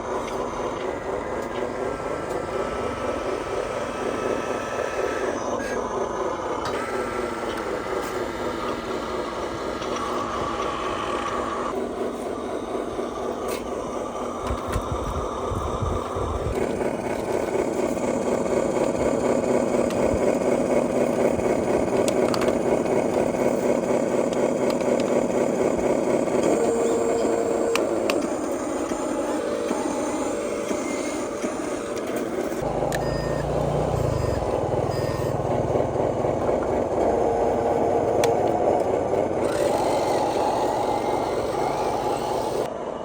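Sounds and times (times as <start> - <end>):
electric motors whining: 0.0 - 43.0.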